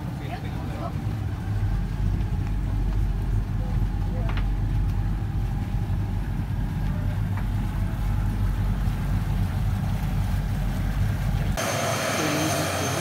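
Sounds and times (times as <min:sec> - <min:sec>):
speedboat engine running: 0:00.0 - 0:13.0
turboprop aircraft engines whining: 0:00.0 - 0:13.0.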